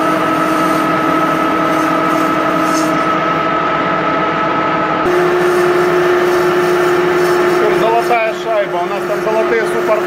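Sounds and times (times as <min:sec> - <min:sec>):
lathe gear whine: 0:00.0 - 0:10.0
motor hum: 0:00.0 - 0:10.0.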